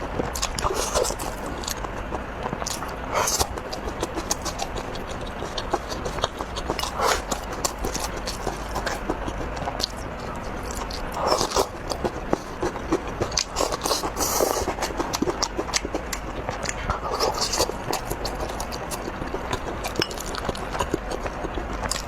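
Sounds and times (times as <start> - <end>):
person chewing food: 0.0 - 22.0
wet mouth sounds: 0.3 - 22.0.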